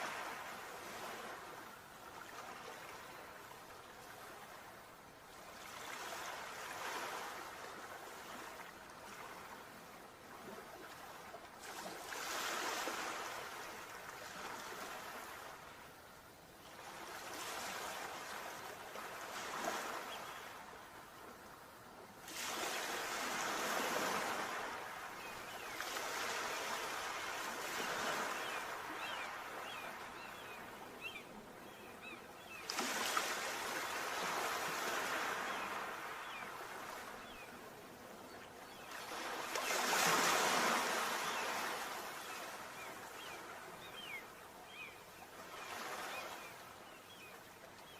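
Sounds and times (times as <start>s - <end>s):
sea waves breaking on shore: 0.0s - 16.0s, 16.7s - 47.9s.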